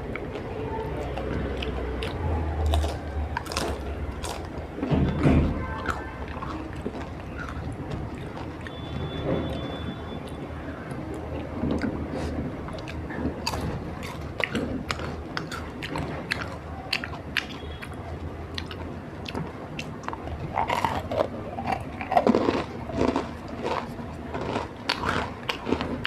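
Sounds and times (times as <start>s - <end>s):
crunching and chewing crackers: 0.0s - 26.0s.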